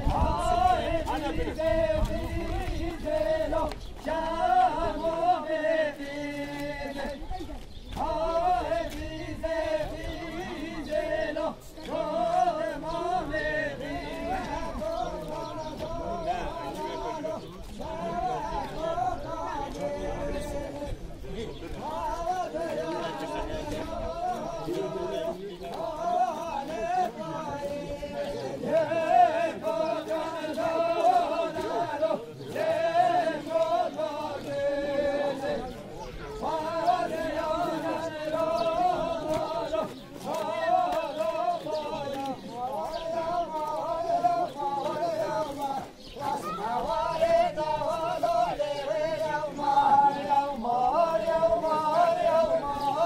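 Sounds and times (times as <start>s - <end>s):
voices singing unaccompanied: 0.0s - 53.0s.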